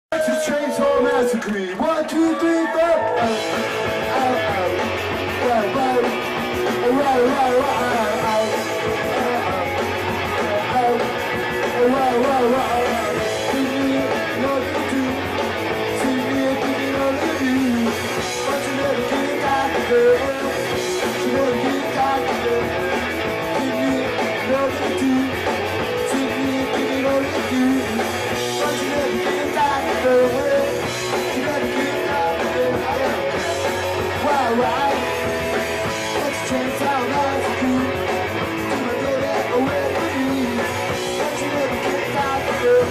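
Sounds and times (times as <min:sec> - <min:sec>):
person singing: 0:00.1 - 0:42.9
punk rock band playing: 0:00.1 - 0:42.9.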